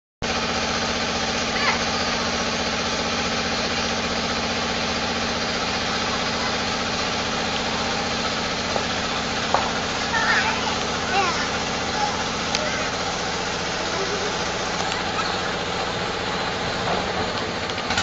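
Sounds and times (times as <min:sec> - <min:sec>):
large engine idling: 0:00.2 - 0:18.0.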